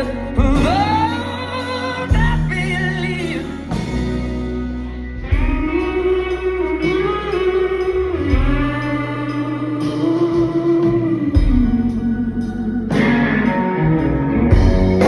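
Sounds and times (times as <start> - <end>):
bass: 0.0 - 15.0
electric guitar melody: 0.0 - 15.0.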